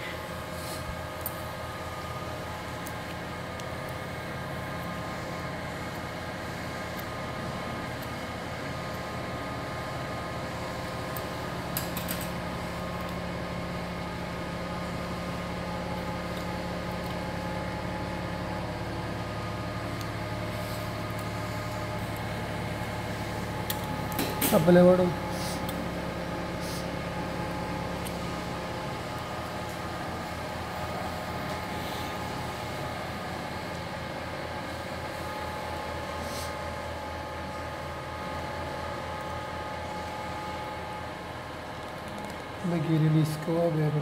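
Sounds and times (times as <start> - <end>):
mechanical hum of equipment: 0.0 - 44.0.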